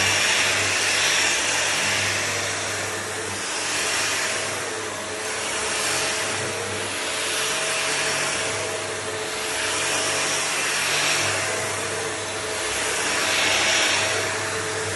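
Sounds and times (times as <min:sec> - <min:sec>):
electric floor sanding machine: 0:00.0 - 0:14.9.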